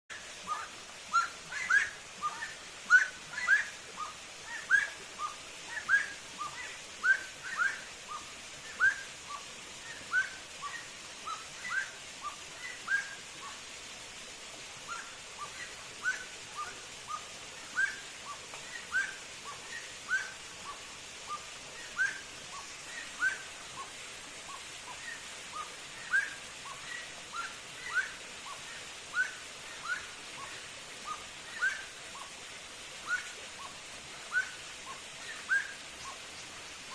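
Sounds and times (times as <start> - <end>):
bird whistling rising notes: 0.5 - 13.5, 14.9 - 23.4, 24.5 - 28.2, 29.1 - 31.9, 34.3 - 36.2.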